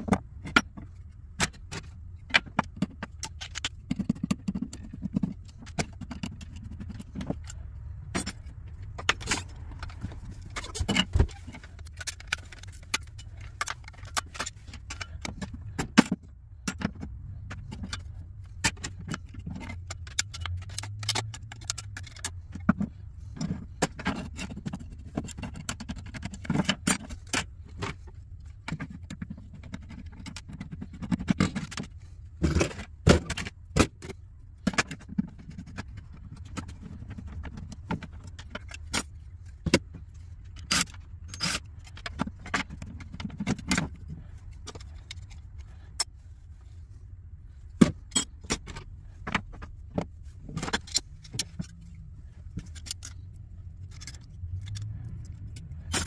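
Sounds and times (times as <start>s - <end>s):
metallic clicks of screws and tools: 0.0s - 46.8s, 47.5s - 56.0s
low steady hum: 0.0s - 56.0s.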